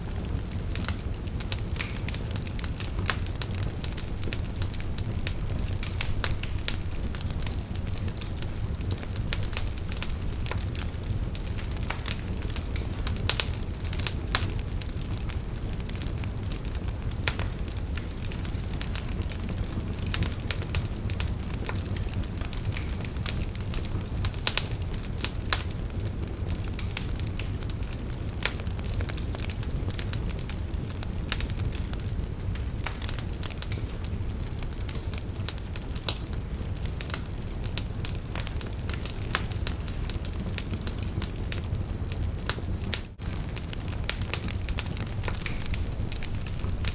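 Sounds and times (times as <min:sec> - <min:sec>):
low rumble of flames: 0:00.0 - 0:46.9
wood crackling and popping: 0:00.0 - 0:46.9.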